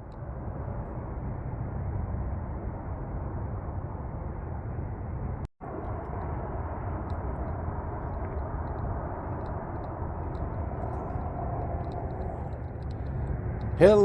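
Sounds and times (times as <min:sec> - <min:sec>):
low rumbling noise with hiss: 0:00.0 - 0:14.0.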